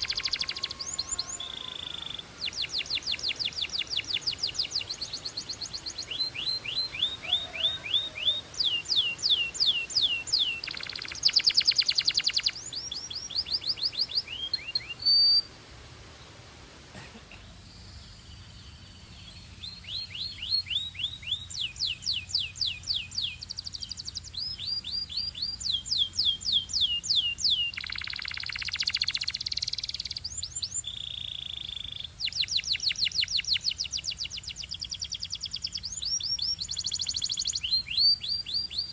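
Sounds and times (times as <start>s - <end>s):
canary singing rapid trills: 0.0s - 15.5s, 19.4s - 38.9s.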